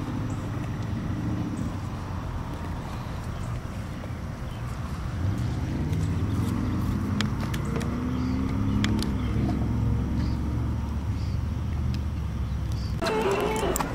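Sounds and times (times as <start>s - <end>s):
vehicle engine humming: 0.0s - 13.9s.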